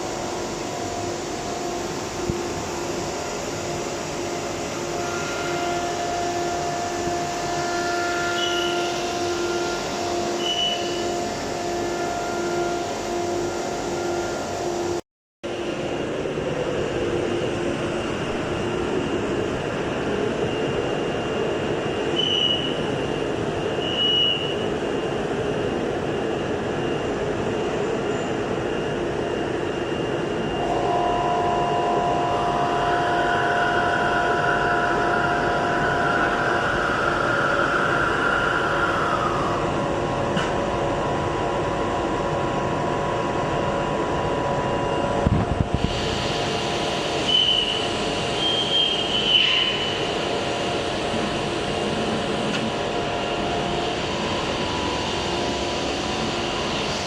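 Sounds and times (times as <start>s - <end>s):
high whine: 0.0s - 57.0s.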